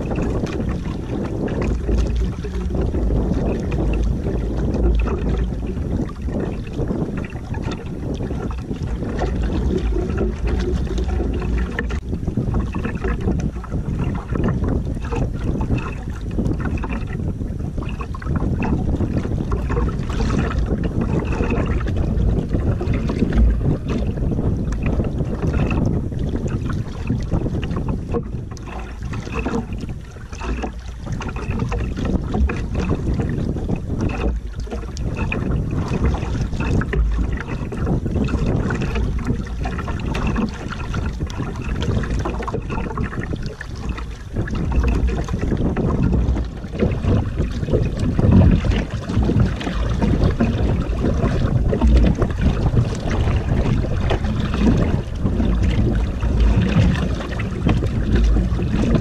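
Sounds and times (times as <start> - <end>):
water slapping against canoe hull: 0.0 - 59.0
wind buffeting microphone: 0.0 - 59.0.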